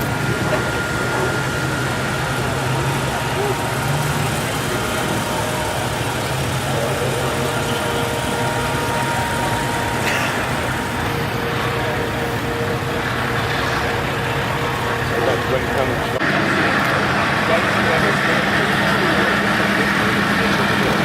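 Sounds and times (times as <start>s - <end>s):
car and truck engines: 0.0s - 21.0s
street noise: 0.0s - 21.0s.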